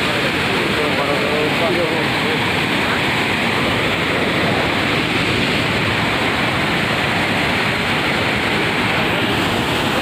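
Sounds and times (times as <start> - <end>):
floodwater rushing roar: 0.0 - 10.0.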